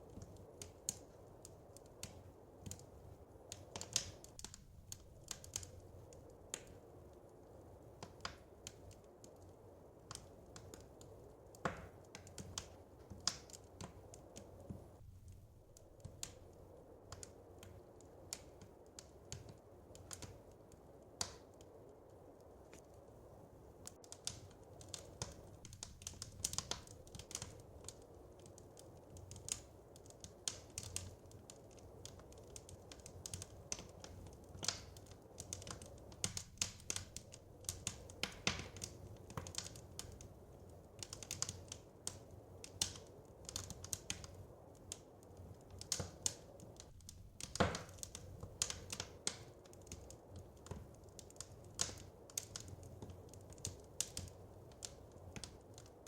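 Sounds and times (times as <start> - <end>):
low fire rumble: 0.0 - 56.0
wood fire snaps and pops: 0.0 - 56.0.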